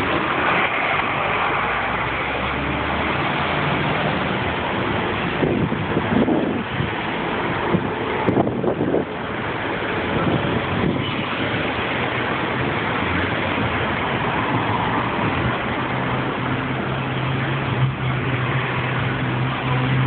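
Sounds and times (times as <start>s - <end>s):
passing car traffic: 0.0s - 20.0s.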